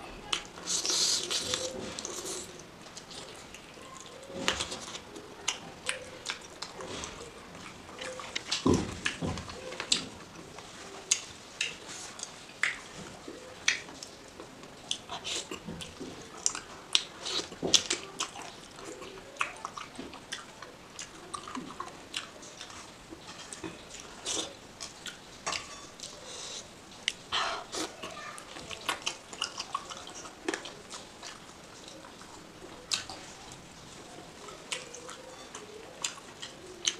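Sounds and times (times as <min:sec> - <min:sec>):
person chewing food: 0:00.3 - 0:36.9.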